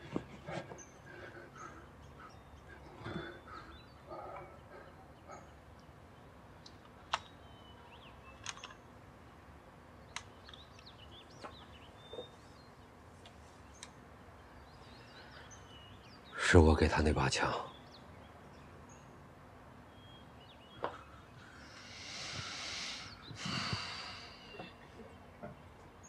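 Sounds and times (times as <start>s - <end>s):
faint birdsong: 0.0s - 26.0s.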